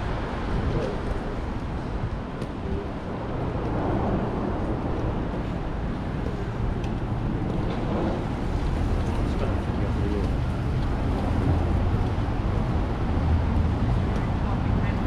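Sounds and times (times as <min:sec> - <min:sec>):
faint voices of passers-by: 0:00.0 - 0:15.0
road traffic rumble: 0:00.0 - 0:15.0.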